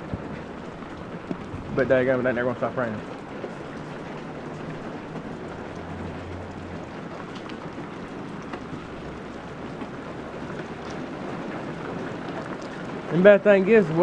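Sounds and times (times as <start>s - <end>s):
heavy rain hissing: 0.0s - 14.0s.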